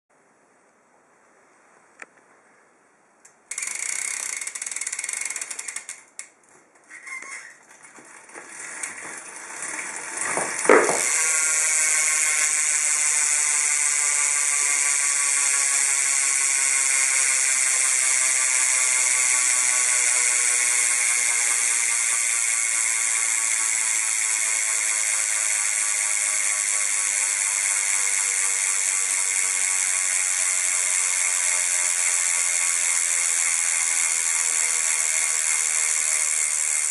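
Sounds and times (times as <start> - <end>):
bicycle hub ratcheting buzz: 3.5 - 6.3, 6.9 - 36.9.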